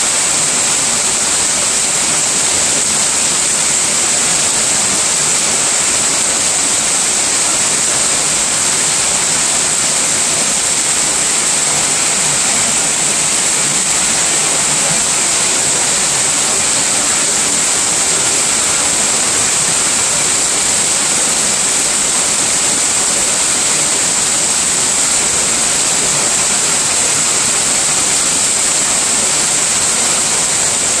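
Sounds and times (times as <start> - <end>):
heavy rain: 0.0 - 31.0
runoff pouring off roof: 0.0 - 31.0.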